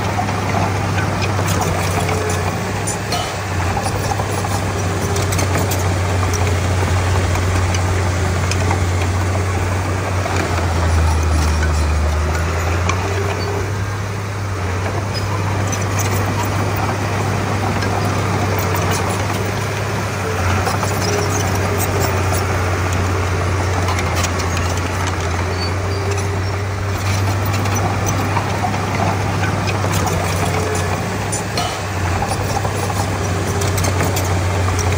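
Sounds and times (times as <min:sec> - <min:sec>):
heavy machinery diesel engine: 0:00.0 - 0:34.9.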